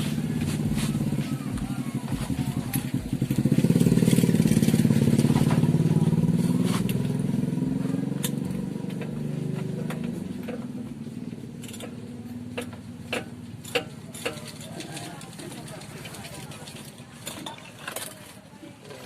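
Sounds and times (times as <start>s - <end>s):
motorcycle engine passing by: 0.0s - 17.1s.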